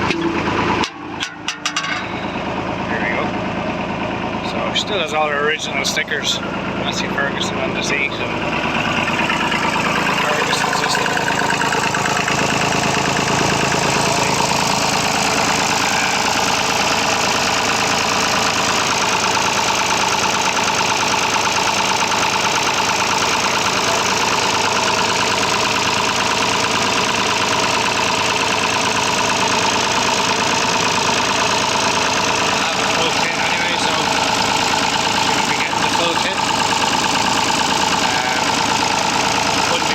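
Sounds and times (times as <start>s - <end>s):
diesel engine running with misfire: 0.0s - 39.9s.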